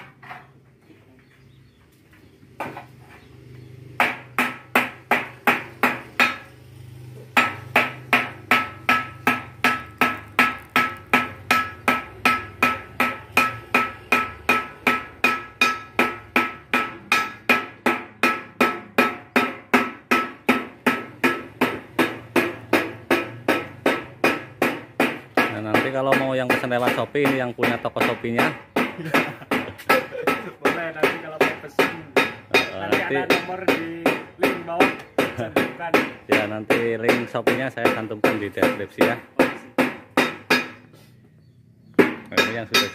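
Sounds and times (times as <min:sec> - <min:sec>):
hammer striking metal panel: 0:04.0 - 0:06.5, 0:07.3 - 0:40.8, 0:42.0 - 0:42.9.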